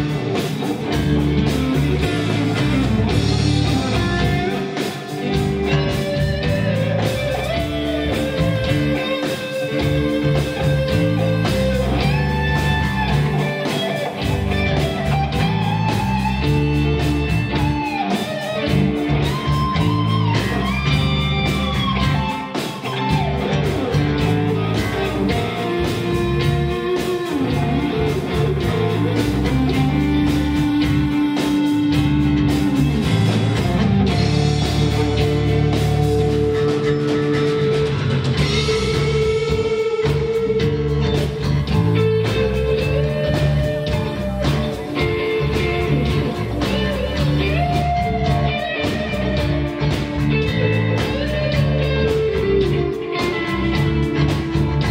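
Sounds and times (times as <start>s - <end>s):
bass: 0.0s - 54.9s
drums: 0.0s - 54.9s
electric guitar bending notes: 0.0s - 54.9s.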